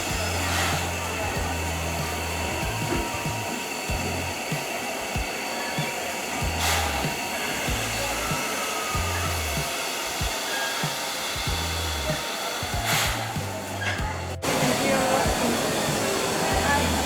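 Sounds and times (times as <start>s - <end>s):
background music with bass beat: 0.0s - 17.0s
steam hissing from locomotive: 0.0s - 17.0s.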